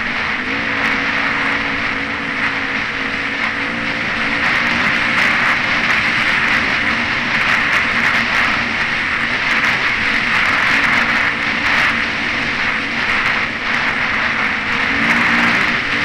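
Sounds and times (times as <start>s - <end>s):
dirt bike engine running: 0.0s - 16.0s
wind rush: 0.0s - 16.0s.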